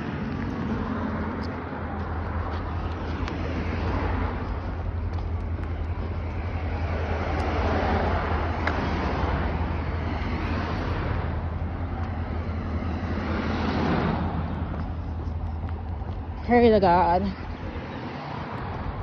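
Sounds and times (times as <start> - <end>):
vehicle road noise: 0.0 - 19.0.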